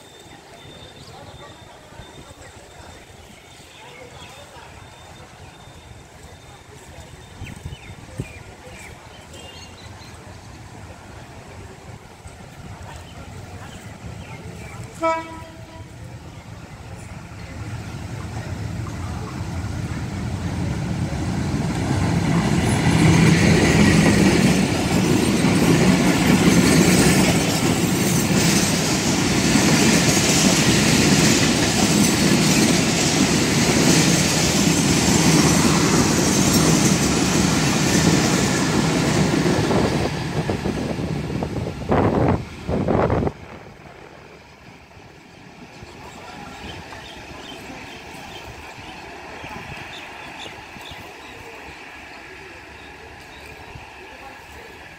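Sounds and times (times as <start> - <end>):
train passing at speed: 0.0 - 54.9.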